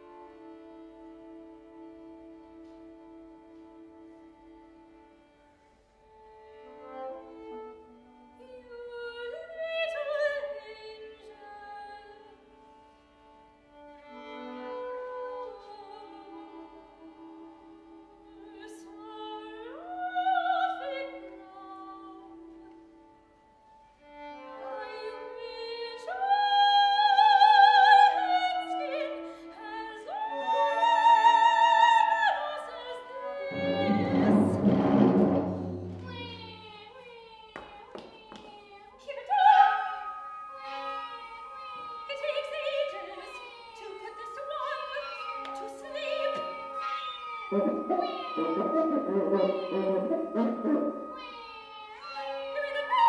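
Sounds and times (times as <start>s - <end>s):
chamber opera music: 0.0s - 53.0s.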